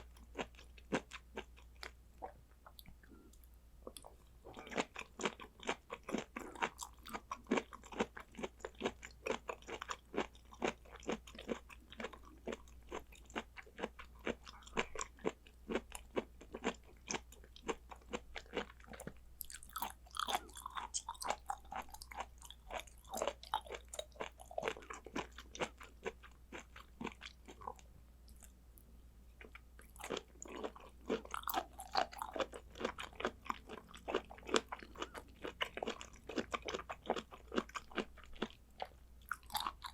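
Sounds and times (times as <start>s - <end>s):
crunchy wet chewing: 3.8s - 28.6s, 29.4s - 39.9s.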